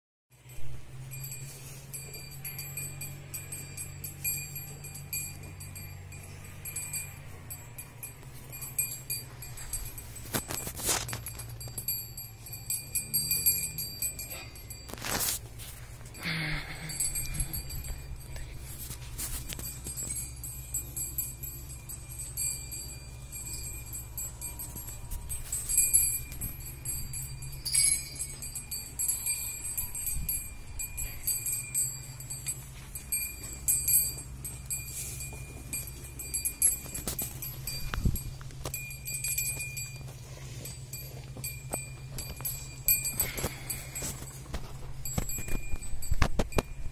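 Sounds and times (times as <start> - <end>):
small bells jingling: 0.3 - 46.9.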